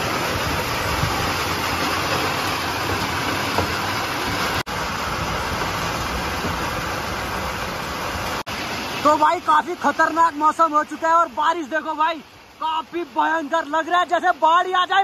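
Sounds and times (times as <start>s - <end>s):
heavy rain on road: 0.0s - 15.0s.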